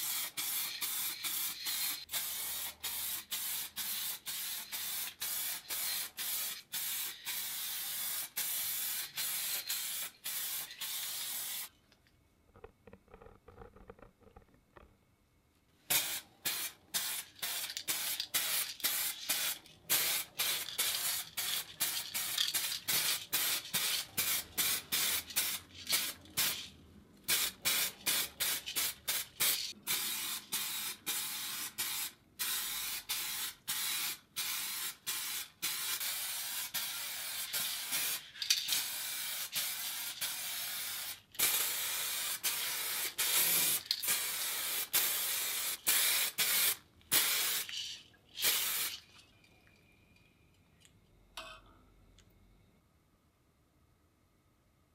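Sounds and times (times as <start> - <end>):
spray paint hissing: 0.0 - 11.7, 15.9 - 26.7, 27.3 - 49.0.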